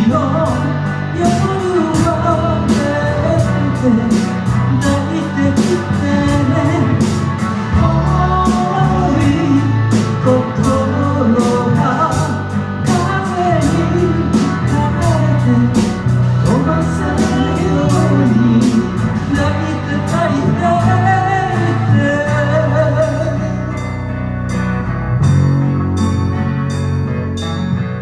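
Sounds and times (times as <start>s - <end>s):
band playing pop ballad: 0.0s - 28.0s.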